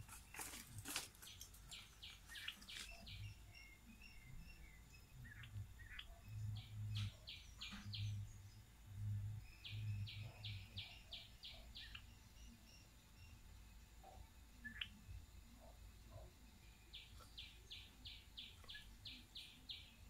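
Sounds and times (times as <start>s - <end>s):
high chirping calls: 0.0s - 20.0s.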